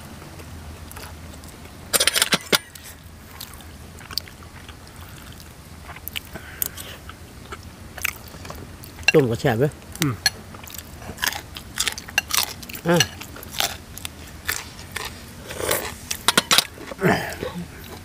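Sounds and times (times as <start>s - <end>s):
low steady hum: 0.0s - 18.0s
chewing: 0.9s - 9.2s, 9.8s - 18.0s.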